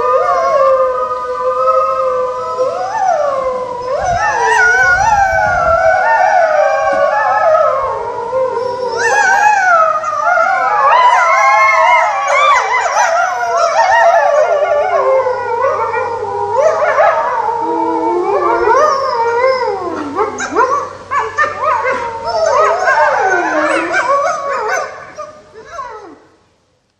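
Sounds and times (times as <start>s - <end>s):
wolves howling and yipping: 0.0s - 26.3s.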